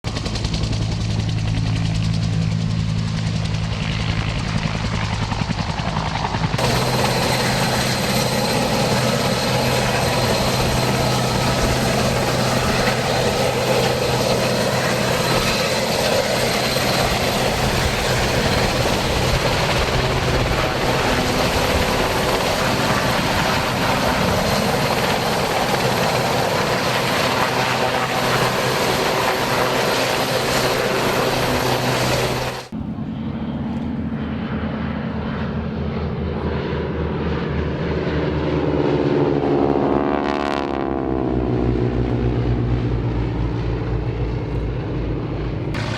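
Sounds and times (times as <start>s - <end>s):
helicopter engine and rotor: 0.0s - 45.9s.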